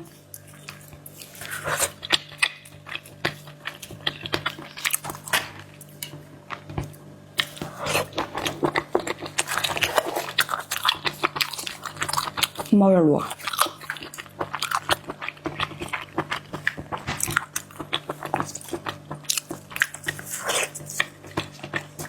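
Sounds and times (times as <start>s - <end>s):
close-up chewing with wet clicks: 0.3s - 22.0s.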